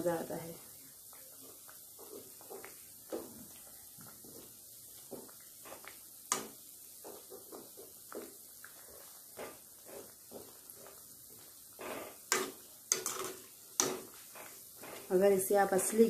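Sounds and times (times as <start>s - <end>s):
bread sizzling in hot oil: 0.0s - 16.0s.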